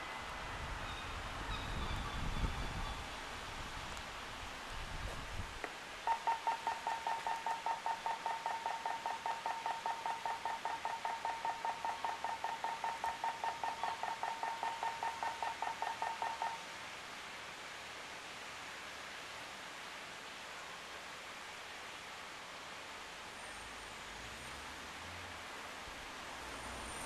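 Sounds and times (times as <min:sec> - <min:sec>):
faint hiss: 0:00.0 - 0:11.9, 0:12.8 - 0:27.0.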